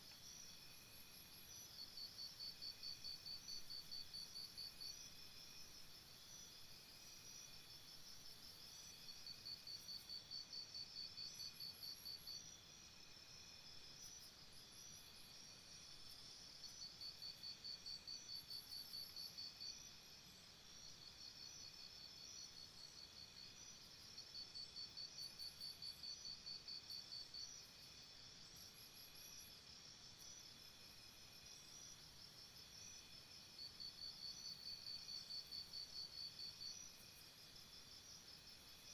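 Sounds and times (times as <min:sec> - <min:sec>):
chorus of crickets: 0:00.0 - 0:38.9.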